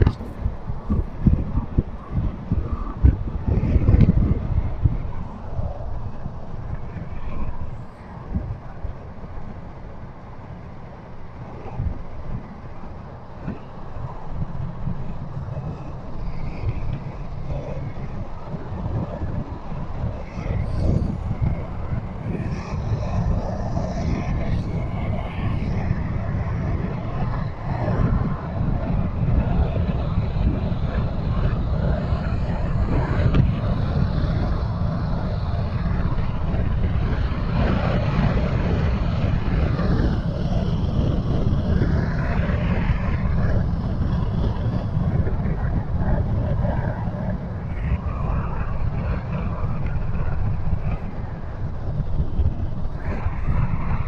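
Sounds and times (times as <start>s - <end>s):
car driving rumble: 0.0s - 54.0s.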